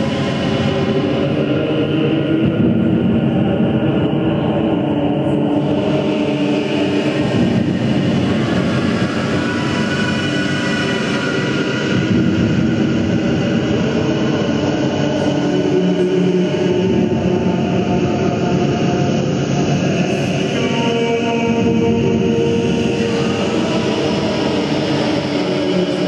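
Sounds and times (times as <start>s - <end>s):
distorted electronic noise drone: 0.0s - 26.0s.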